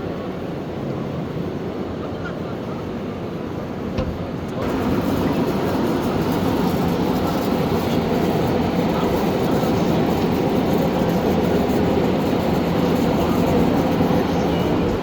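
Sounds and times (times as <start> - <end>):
many distant voices: 1.1 - 15.0.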